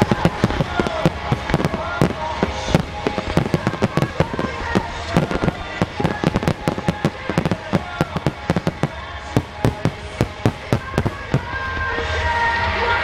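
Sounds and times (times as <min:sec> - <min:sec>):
fireworks bursting rapidly: 0:00.0 - 0:11.9
music: 0:00.0 - 0:13.0.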